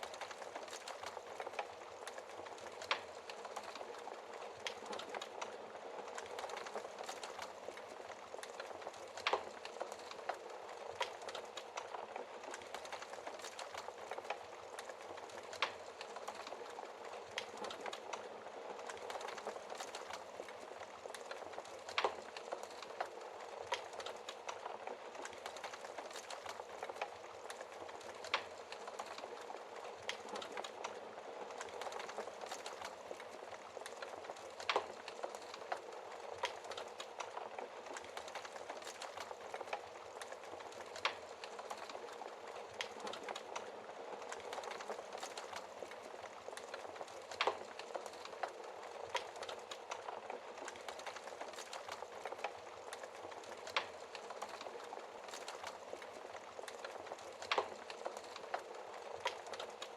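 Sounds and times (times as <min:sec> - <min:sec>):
burning wood popping: 0:00.0 - 0:59.9
wood fire crackling: 0:00.0 - 0:59.9.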